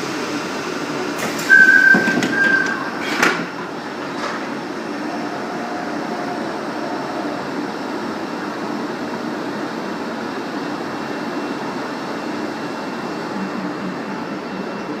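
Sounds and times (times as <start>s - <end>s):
passenger train running: 0.0s - 15.0s.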